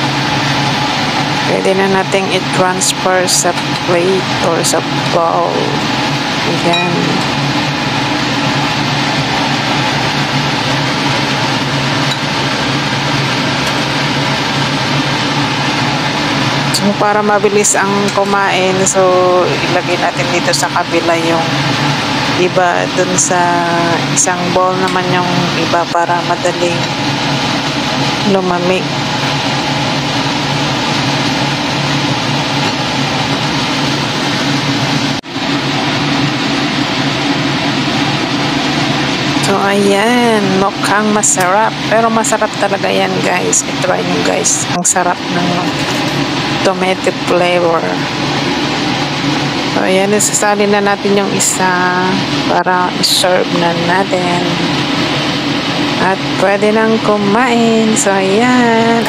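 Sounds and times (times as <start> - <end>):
fan humming: 0.0 - 59.0.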